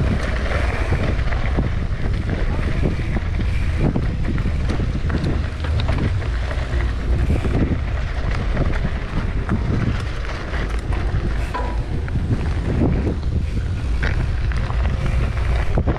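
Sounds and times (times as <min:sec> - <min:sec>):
bike rattles and knocks: 0:00.0 - 0:15.9
wind buffeting microphone: 0:00.0 - 0:15.9.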